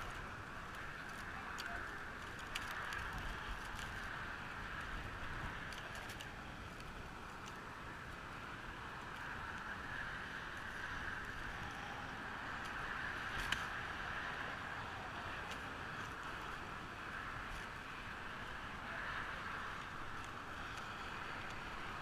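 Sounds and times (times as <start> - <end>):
steady outdoor noise: 0.0 - 22.0.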